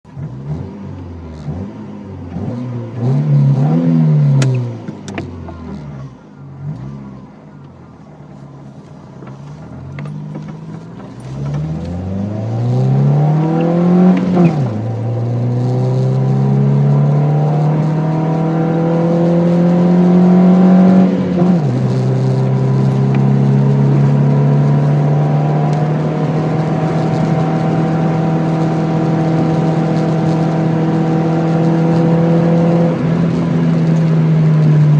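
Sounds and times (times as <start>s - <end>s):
car engine revving and accelerating: 0.1s - 7.6s, 9.2s - 34.9s.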